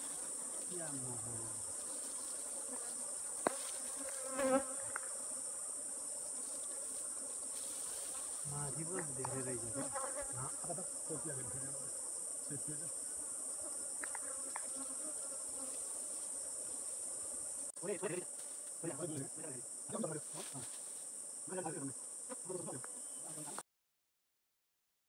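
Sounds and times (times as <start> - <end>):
high-pitched insect chorus: 0.0 - 23.6
honeybees buzzing: 0.0 - 23.6.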